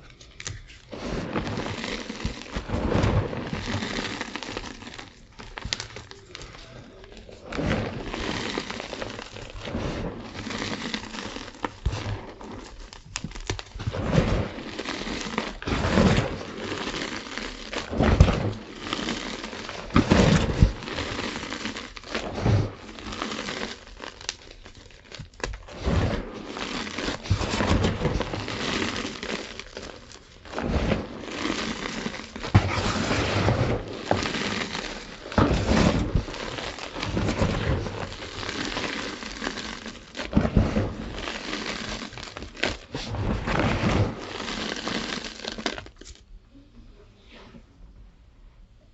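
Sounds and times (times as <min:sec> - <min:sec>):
chalk being crushed and crumbled: 0:00.0 - 0:46.2.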